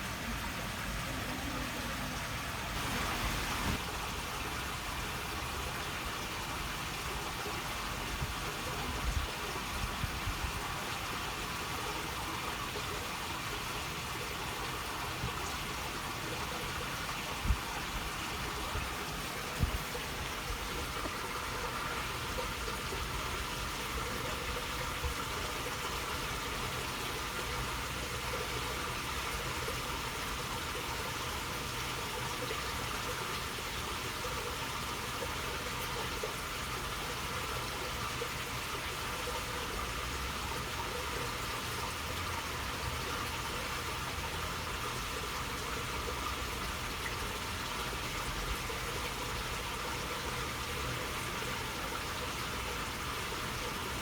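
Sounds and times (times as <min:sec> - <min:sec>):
flowing water burbling: 0:00.0 - 0:54.0.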